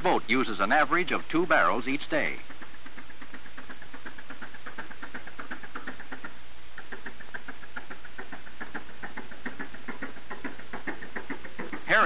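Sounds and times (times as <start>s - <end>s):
rapid even knocking: 1.0s - 12.0s.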